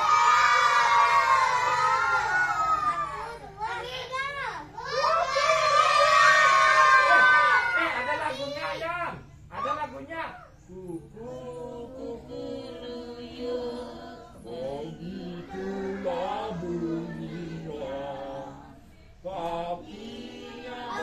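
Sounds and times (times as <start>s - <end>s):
voices singing children's song: 0.0s - 21.0s.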